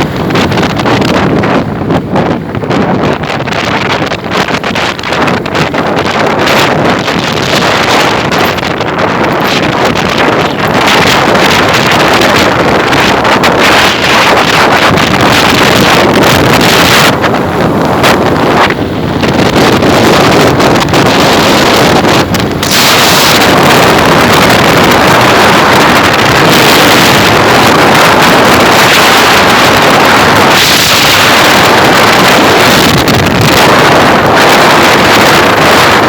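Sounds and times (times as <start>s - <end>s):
motorcycle engine running: 0.0s - 36.0s
wind buffeting microphone: 0.0s - 36.0s.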